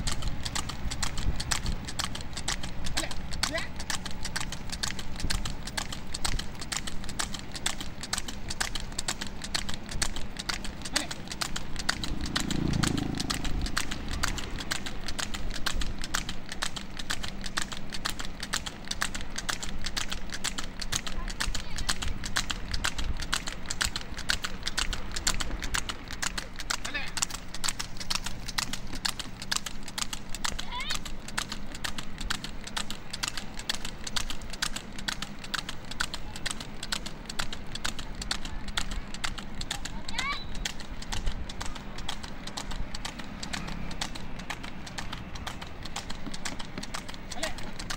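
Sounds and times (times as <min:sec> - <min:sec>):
hooves clicking on asphalt: 0:00.0 - 0:47.9
low steady rumble: 0:00.0 - 0:47.9.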